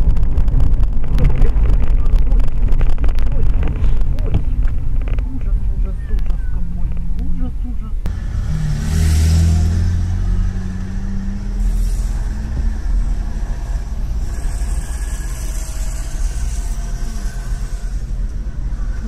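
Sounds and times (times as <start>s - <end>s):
car engine drone: 0.0s - 19.0s
road noise inside car: 0.0s - 19.0s.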